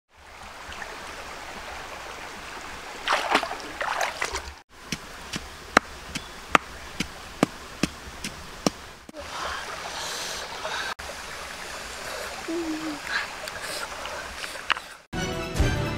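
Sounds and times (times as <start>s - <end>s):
running water: 0.1s - 15.1s
water splashes: 0.1s - 15.1s.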